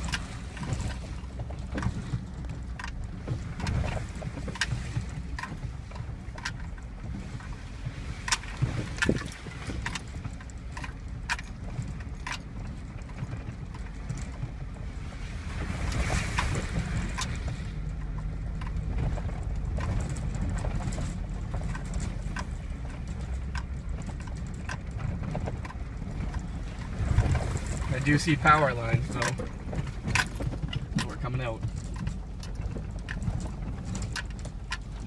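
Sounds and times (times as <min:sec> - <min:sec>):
knocks and rattles over bumps: 0:00.0 - 0:35.0
truck engine rumble: 0:00.0 - 0:35.0.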